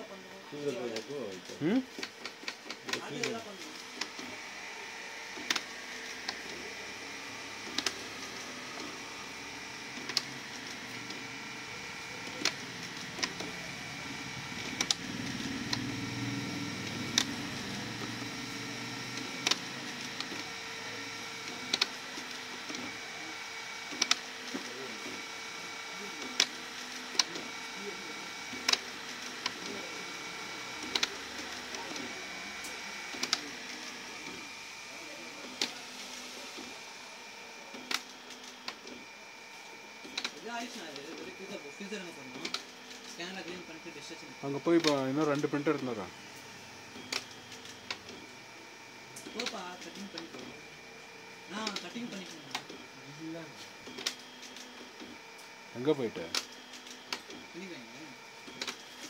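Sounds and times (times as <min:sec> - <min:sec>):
printer mechanical whine: 0:00.0 - 0:59.0
printer motor hum: 0:00.0 - 0:59.0
sharp printer clicks: 0:00.7 - 0:04.5, 0:05.2 - 0:34.6, 0:35.2 - 0:35.8, 0:37.6 - 0:39.1, 0:39.8 - 0:57.6, 0:58.4 - 0:59.0.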